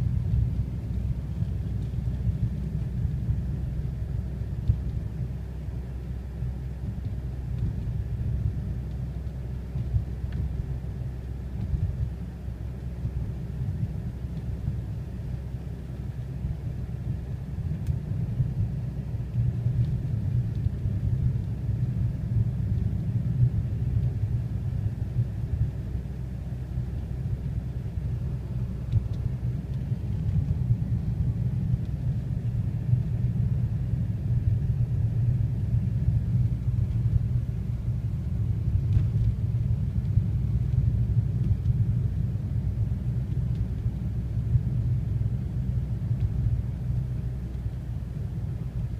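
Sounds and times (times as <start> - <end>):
car driving on snowy road: 0.0 - 48.9.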